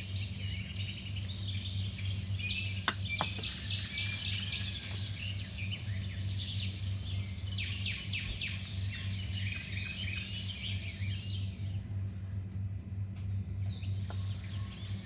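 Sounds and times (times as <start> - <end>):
small birds chirping: 0.0 - 11.8, 13.5 - 15.0
steady low hum: 0.0 - 15.0.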